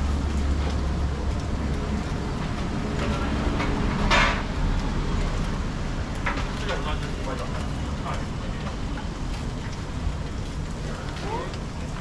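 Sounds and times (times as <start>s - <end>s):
busy grill noise: 0.0s - 12.0s.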